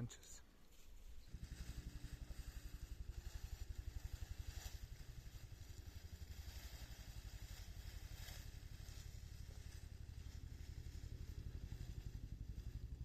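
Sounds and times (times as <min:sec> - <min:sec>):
faint engine running: 0:00.4 - 0:13.0.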